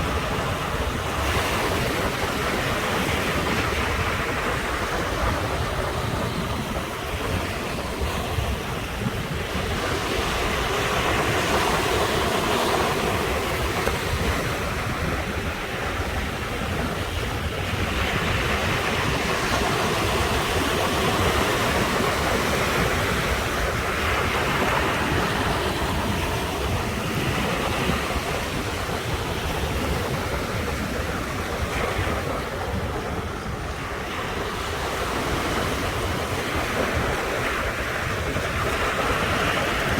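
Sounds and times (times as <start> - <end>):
sea waves breaking on shore: 0.0 - 39.9
wind rumble on microphone: 0.0 - 39.9.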